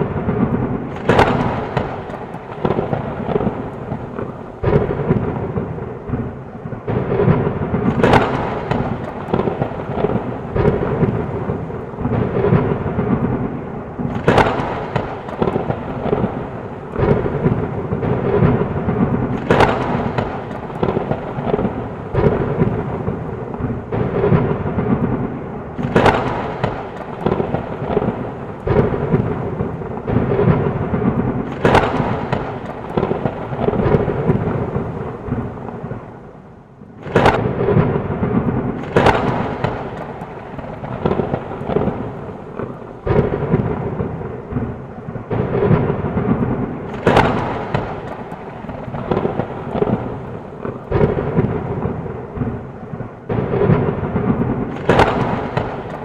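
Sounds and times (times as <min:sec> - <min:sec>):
thunder cracks: 0:00.0 - 0:36.3, 0:37.0 - 0:56.0
rolling thunder rumble: 0:00.0 - 0:56.0.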